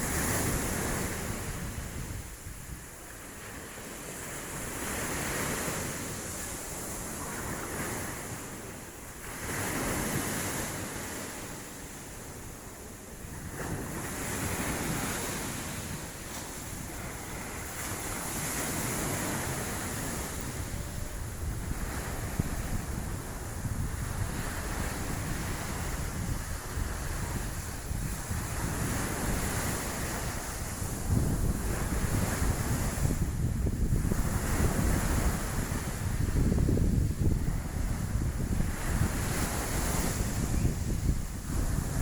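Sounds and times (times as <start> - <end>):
sea waves washing onto beach: 0.0 - 42.0
wind rumbling on microphone: 0.0 - 42.0.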